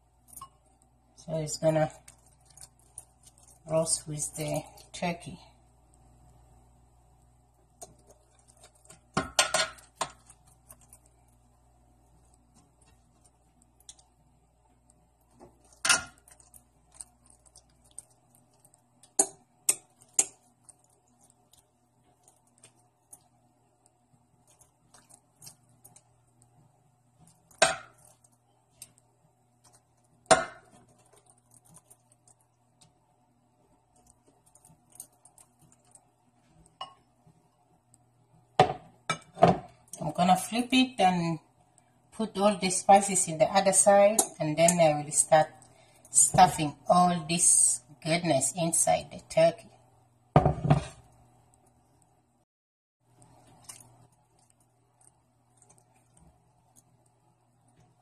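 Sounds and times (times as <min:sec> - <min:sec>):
faint steady hum: 0:00.0 - 0:52.4, 0:53.0 - 0:58.0.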